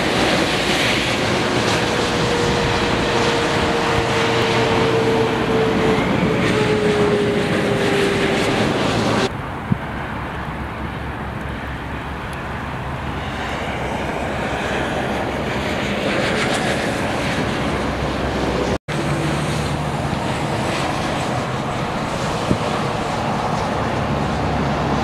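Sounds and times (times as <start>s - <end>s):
gusty wind: 0.0s - 25.0s
traffic on wet road: 0.0s - 25.0s.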